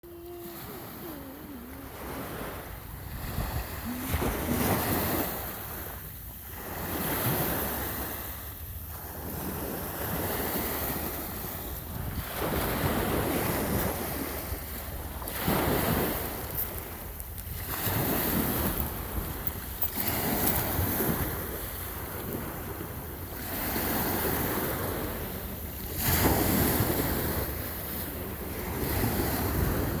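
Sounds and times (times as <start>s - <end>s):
ocean waves breaking: 0.0s - 30.0s
wind buffeting microphone: 0.1s - 8.1s, 9.0s - 30.0s.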